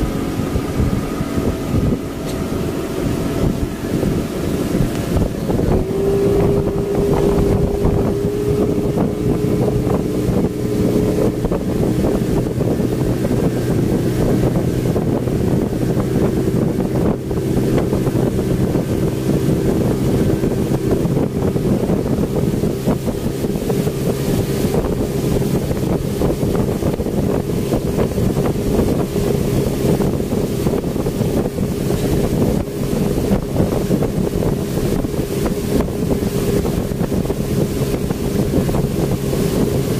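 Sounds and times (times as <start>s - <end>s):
speedboat engine running: 0.0s - 39.9s
wind buffeting microphone: 0.0s - 39.9s.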